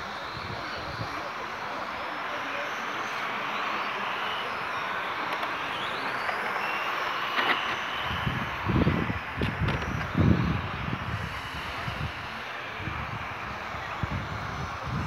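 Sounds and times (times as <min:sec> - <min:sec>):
model truck motors whining: 0:00.0 - 0:15.0.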